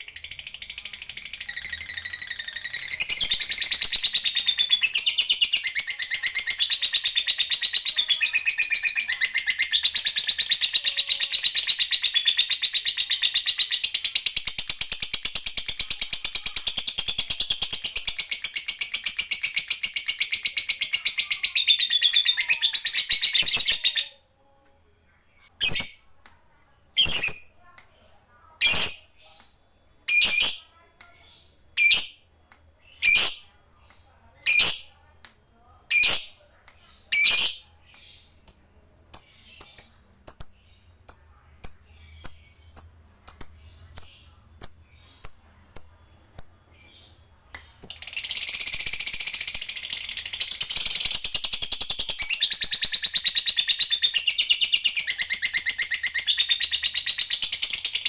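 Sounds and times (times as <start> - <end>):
lovebird calling and chattering: 0.0 - 24.2, 25.3 - 26.2, 27.0 - 32.2, 32.8 - 58.0.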